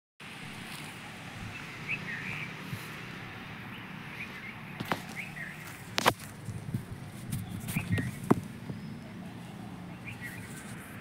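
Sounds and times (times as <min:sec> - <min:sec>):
outdoor background noise: 0:00.2 - 0:11.0
small birds chirping: 0:00.6 - 0:11.0.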